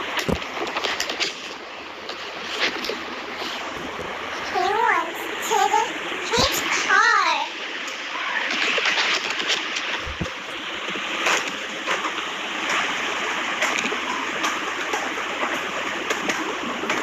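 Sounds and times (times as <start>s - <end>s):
rushing hissing noise: 0.0s - 17.0s.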